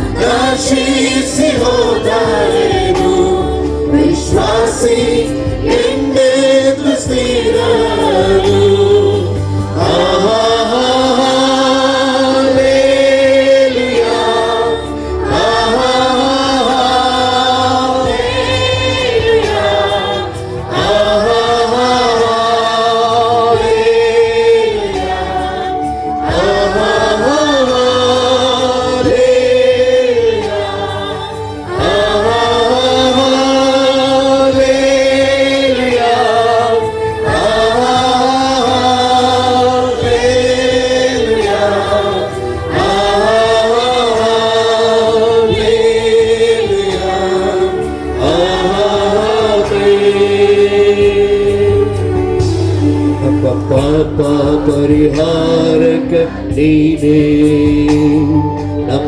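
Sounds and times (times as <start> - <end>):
choir singing: 0.0 - 59.0
instrumental backing: 0.0 - 59.0.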